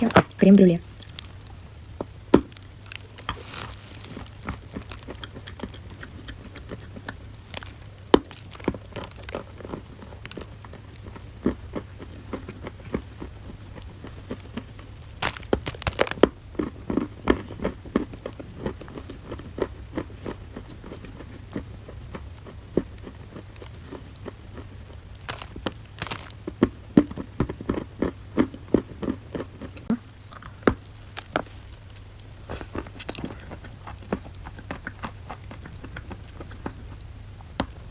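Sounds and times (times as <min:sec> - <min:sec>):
clay being crushed: 0:00.0 - 0:21.0, 0:22.8 - 0:37.9.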